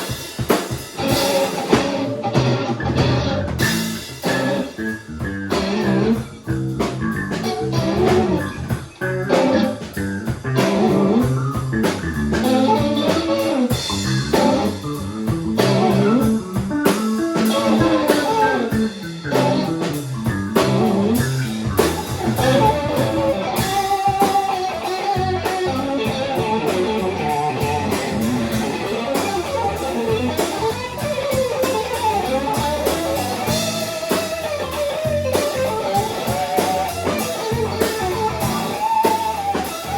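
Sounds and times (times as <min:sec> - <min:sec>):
bass and drums: 0:00.0 - 0:39.9
electric guitar lead: 0:00.0 - 0:39.9.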